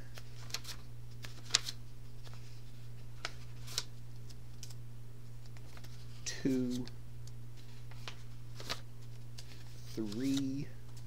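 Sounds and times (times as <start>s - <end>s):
steady low hum: 0.0s - 11.0s
paper rustling: 0.1s - 4.8s, 5.4s - 6.9s, 7.6s - 11.0s.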